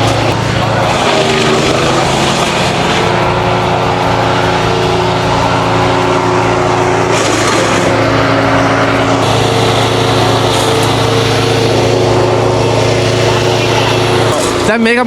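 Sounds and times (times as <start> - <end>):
wood chipper running: 0.0 - 15.0.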